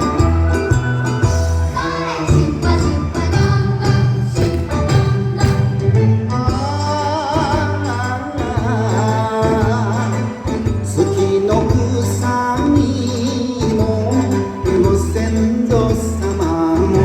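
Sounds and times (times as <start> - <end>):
bouncing bass beat: 0.0 - 17.0
person singing with vibrato: 0.0 - 17.0.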